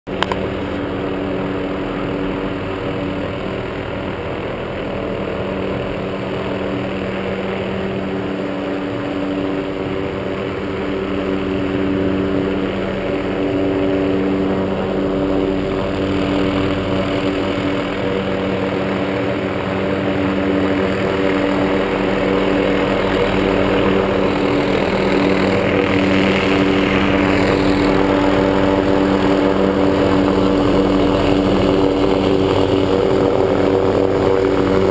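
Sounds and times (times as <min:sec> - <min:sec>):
helicopter engine and rotor: 0:00.1 - 0:34.9.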